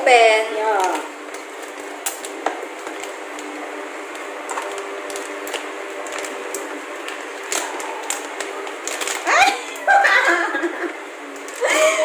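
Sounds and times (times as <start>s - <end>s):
plastic pouch crinkling: 0.7s - 10.6s.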